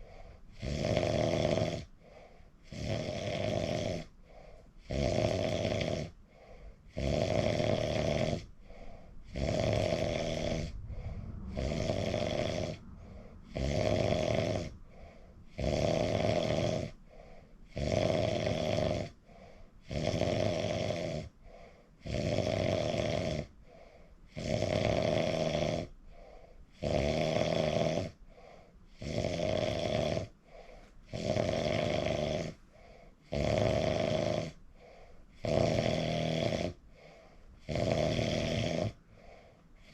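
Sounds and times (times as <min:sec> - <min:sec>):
quiet breathing: 0:00.0 - 0:20.2, 0:21.2 - 0:24.8, 0:25.4 - 0:26.9, 0:28.0 - 0:37.8, 0:38.4 - 0:39.9
person snoring: 0:00.0 - 0:39.9.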